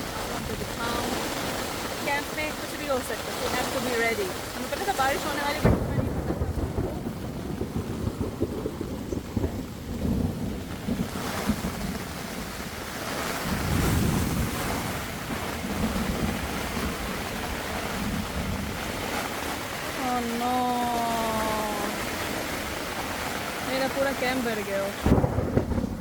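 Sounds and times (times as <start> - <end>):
heavy rain hissing: 0.0 - 26.0
low thunder rumbling: 0.0 - 26.0.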